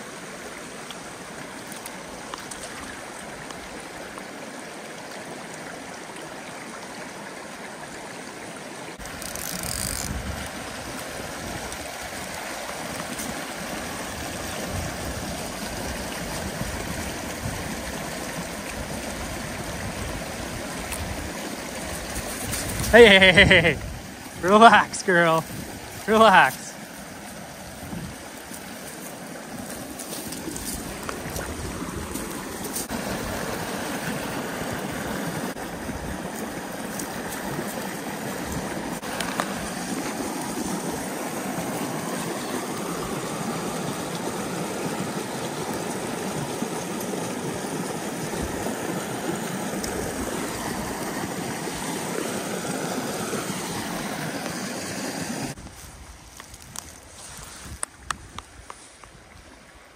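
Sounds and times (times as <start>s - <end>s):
creek rushing over stones: 0.0s - 59.9s.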